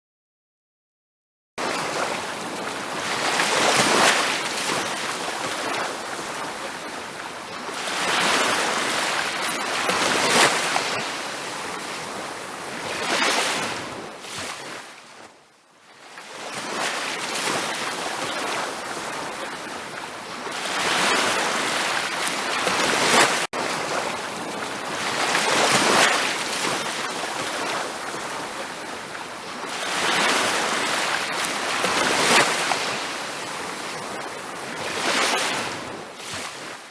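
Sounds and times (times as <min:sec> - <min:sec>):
ocean waves breaking on a beach: 0:01.6 - 0:36.9.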